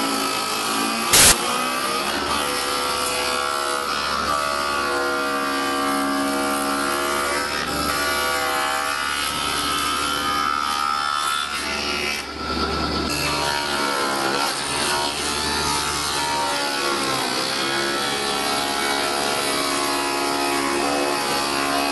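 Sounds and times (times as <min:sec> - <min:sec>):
cutter rasping in wood: 0:00.0 - 0:21.9.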